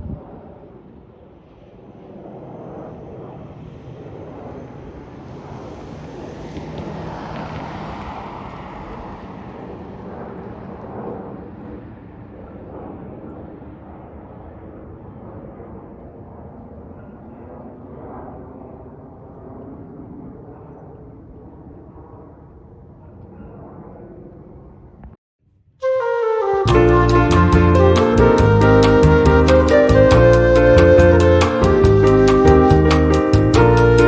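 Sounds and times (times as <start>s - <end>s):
airplane engine rumble: 0.0s - 25.0s, 25.8s - 34.0s.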